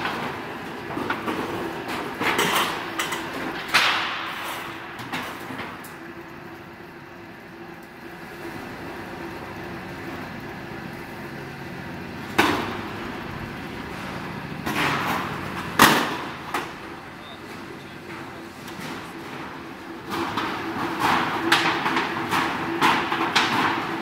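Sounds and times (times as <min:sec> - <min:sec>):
roll forming machine humming: 0:00.0 - 0:24.0.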